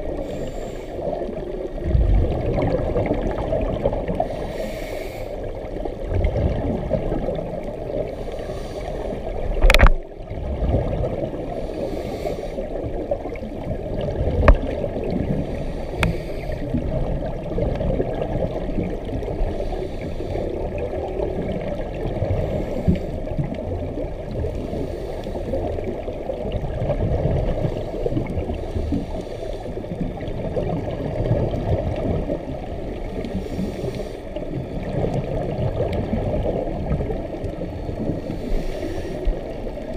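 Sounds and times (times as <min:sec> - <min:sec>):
muffled underwater rush: 0:00.0 - 0:39.9
regulator bubbles gurgling: 0:00.0 - 0:39.9.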